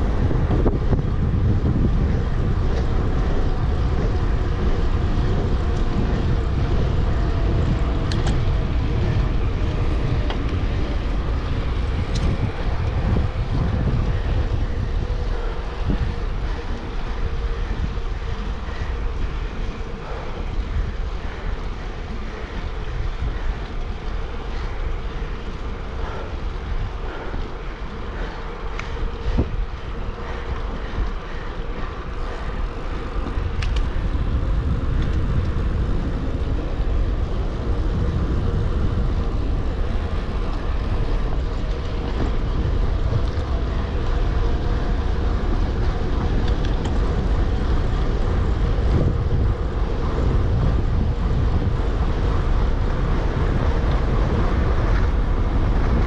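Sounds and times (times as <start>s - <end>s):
bike tyres rolling on road: 0.0s - 56.0s
steady hum: 0.0s - 56.0s
wind buffeting microphone: 0.0s - 56.0s.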